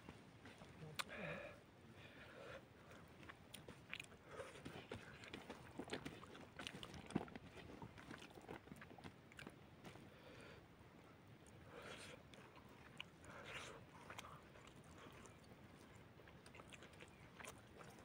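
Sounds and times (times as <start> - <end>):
person chewing food: 2.7 - 10.6, 11.4 - 18.0.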